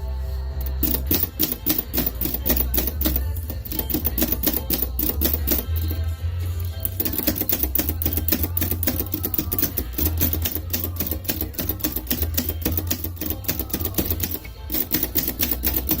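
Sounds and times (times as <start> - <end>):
background music: 0.0 - 16.0
typewriter keys striking: 0.8 - 5.9, 6.8 - 16.0.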